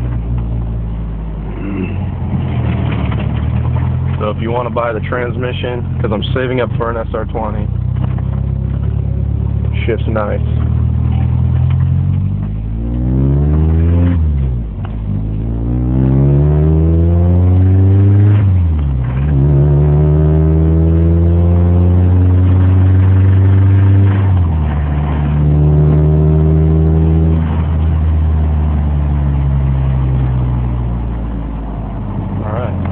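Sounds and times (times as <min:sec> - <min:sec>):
car engine accelerating through gears: 0:00.0 - 0:32.9.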